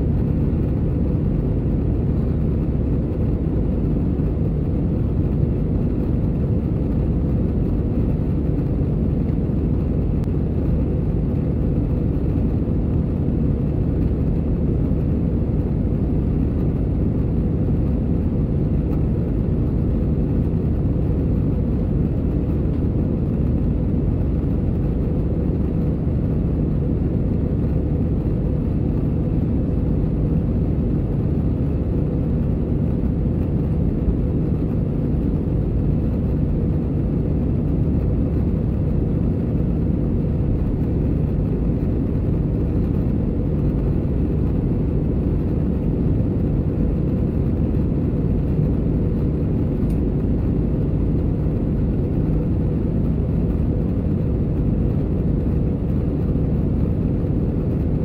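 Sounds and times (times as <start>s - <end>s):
faint steady hum: 0.0s - 58.0s
jet engine drone: 0.0s - 58.0s.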